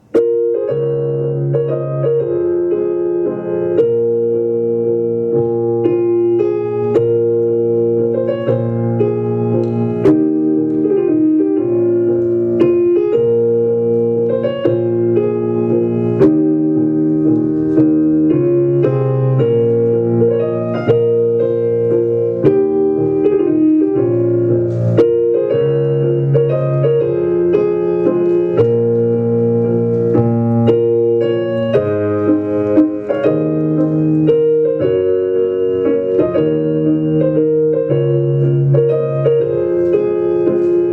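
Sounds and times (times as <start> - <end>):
piano waltz: 0.0 - 40.9.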